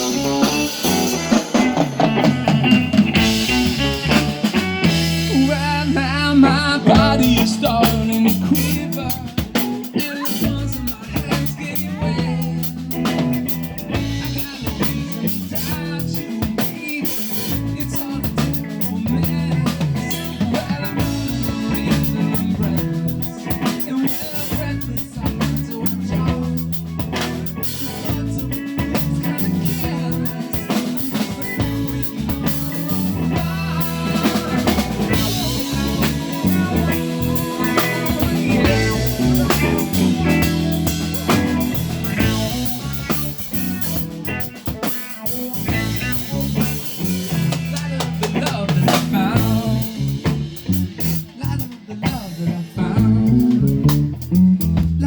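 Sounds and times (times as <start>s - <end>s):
bass drum: 0.0s - 16.8s, 17.4s - 44.8s, 45.5s - 51.7s, 52.8s - 55.0s
live band playing: 0.0s - 55.0s.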